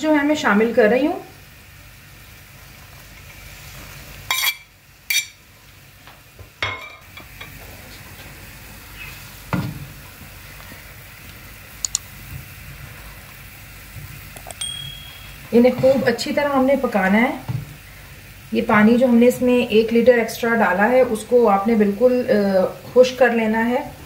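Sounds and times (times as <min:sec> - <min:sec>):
liquid boiling in a pan: 0:00.1 - 0:14.4, 0:15.3 - 0:24.0.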